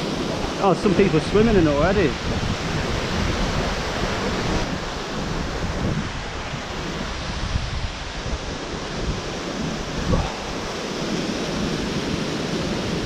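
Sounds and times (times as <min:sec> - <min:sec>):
stream rushing over waterfalls: 0:00.0 - 0:13.0
wind buffeting microphone: 0:00.0 - 0:13.0.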